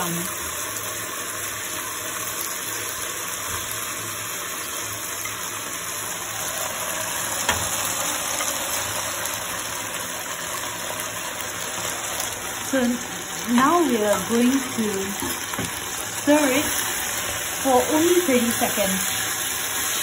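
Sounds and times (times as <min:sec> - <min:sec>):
sauce sizzling in a wok: 0:00.0 - 0:20.0.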